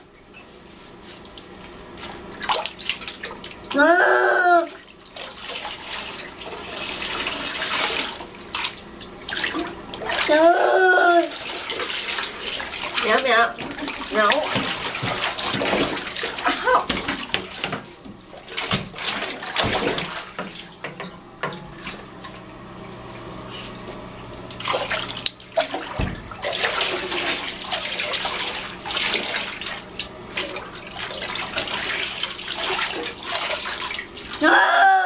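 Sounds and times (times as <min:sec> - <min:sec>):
water splashing in bathtub: 0:00.6 - 0:35.0.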